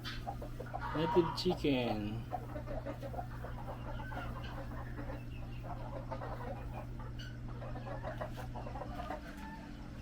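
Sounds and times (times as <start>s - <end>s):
chickens clucking: 0.0s - 10.0s
steady low hum: 0.0s - 10.0s.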